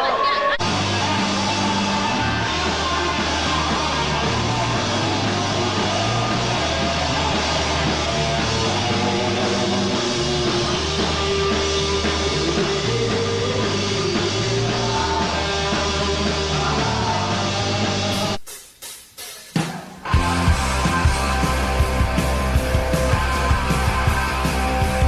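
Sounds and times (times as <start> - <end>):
bass line: 0.6 - 18.4, 20.1 - 25.0
electric guitar: 0.6 - 18.4, 20.0 - 25.0.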